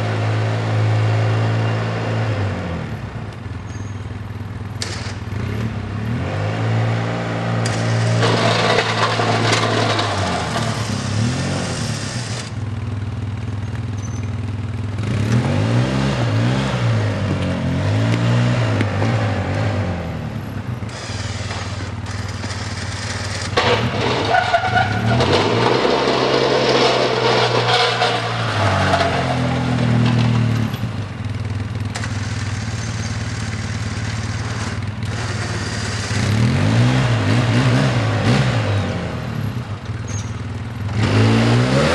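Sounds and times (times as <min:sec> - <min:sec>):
atv engine revving: 0:04.8 - 0:12.6, 0:14.8 - 0:41.9.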